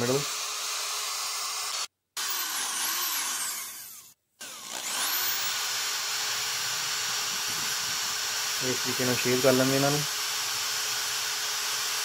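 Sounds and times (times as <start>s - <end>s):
electric drill boring into wood: 0.0s - 12.0s.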